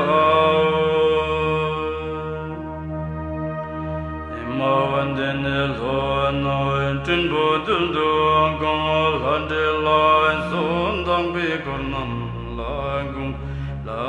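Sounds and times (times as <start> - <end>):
person chanting a prayer: 0.0 - 3.1, 4.2 - 14.0
steady low drone: 0.0 - 14.0.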